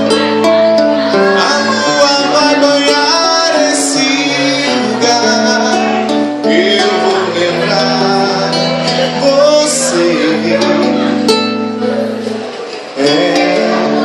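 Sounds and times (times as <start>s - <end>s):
acoustic guitar: 0.0s - 14.0s.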